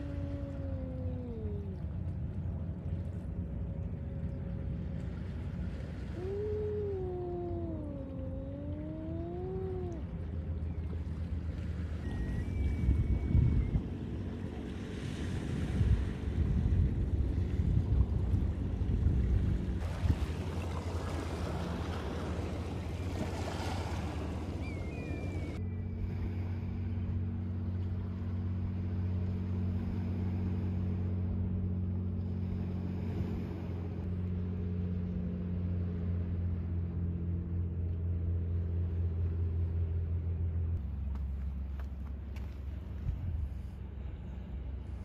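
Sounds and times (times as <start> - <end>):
boat engine droning: 0.0 - 45.0
wind and water noise: 0.0 - 45.0.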